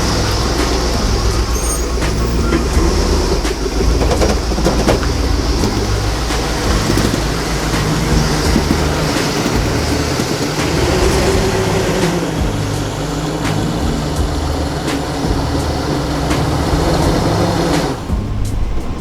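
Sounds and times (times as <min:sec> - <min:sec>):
car engine and road drone: 0:00.0 - 0:19.0
knocks and rattles: 0:00.0 - 0:19.0.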